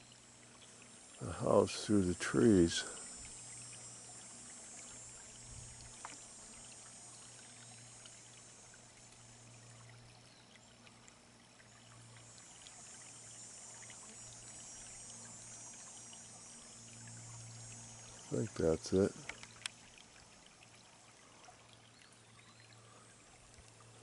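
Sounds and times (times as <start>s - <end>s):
brook trickling over stones: 0.0s - 24.0s.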